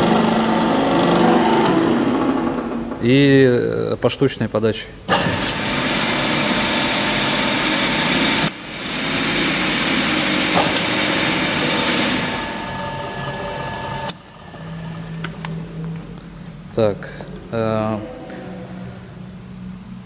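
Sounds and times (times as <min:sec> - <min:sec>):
electric gearmotor whine and hum: 0:00.0 - 0:03.1, 0:05.1 - 0:20.0.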